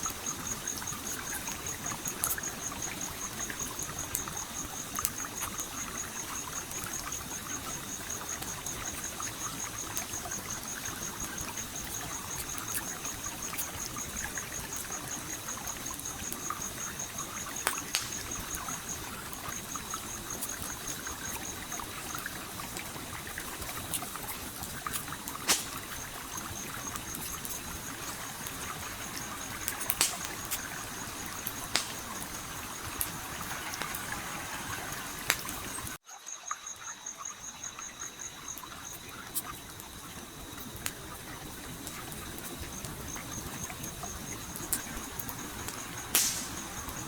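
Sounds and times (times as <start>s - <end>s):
campfire crackling: 0.0s - 36.0s, 37.4s - 47.0s
insect trilling: 0.0s - 47.0s
stream flowing: 0.7s - 47.0s.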